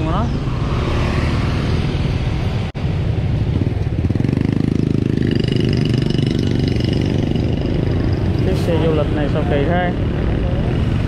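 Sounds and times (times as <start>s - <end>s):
street traffic: 0.0s - 11.0s
motorbike engine rumbling: 1.8s - 11.0s.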